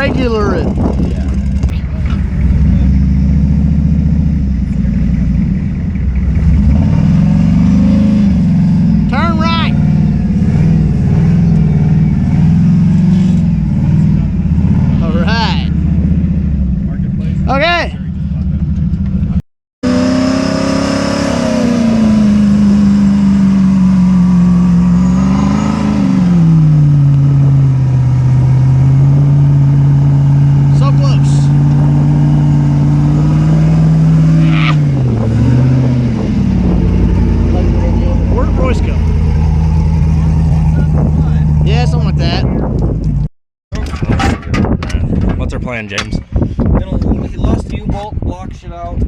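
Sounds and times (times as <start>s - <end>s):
vehicle engine revving: 0.0s - 44.3s.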